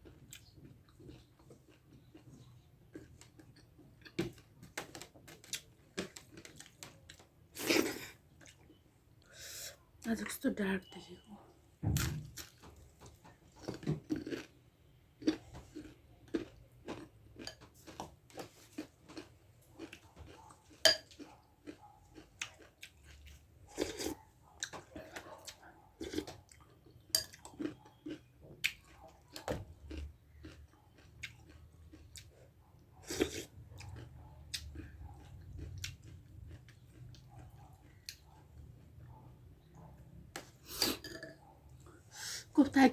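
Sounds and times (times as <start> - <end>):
person chewing food: 0.0 - 9.8, 12.2 - 42.1.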